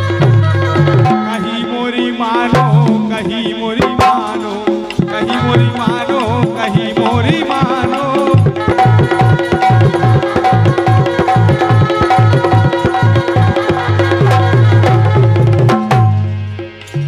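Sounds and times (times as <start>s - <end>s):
hand drum percussion: 0.0s - 17.0s.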